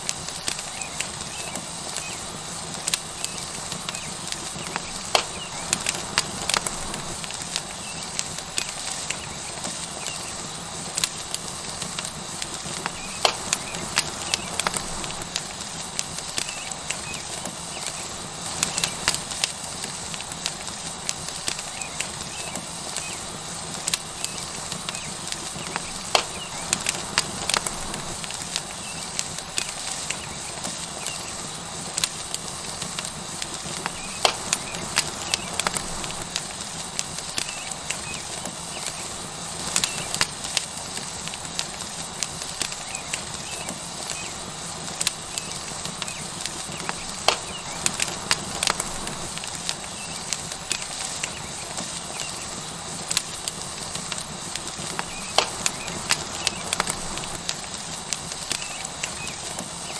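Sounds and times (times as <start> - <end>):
steak sizzling on hot rock: 0.0 - 59.9
wood fire crackling and popping: 0.0 - 59.9.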